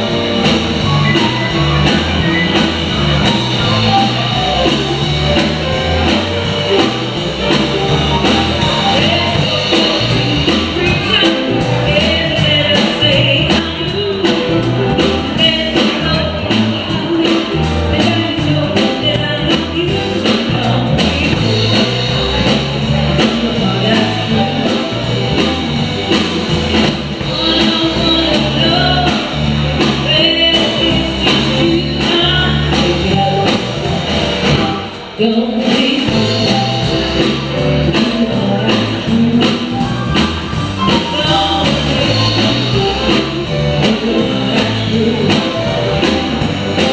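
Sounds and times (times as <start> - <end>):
live rock and roll band: 0.0 - 46.9
person singing: 0.0 - 46.9.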